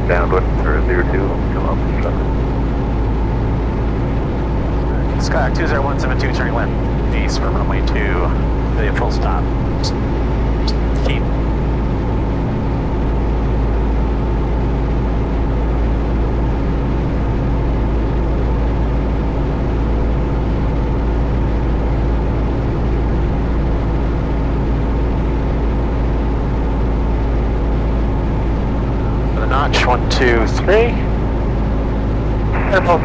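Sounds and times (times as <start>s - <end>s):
airplane engine droning in cabin: 0.0s - 33.0s.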